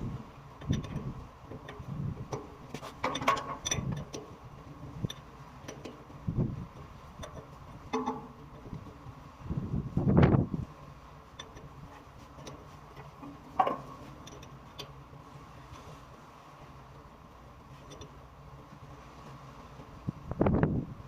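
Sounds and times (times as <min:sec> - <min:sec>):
faint constant tone: 0:00.0 - 0:21.0
steady low hum: 0:00.0 - 0:21.0.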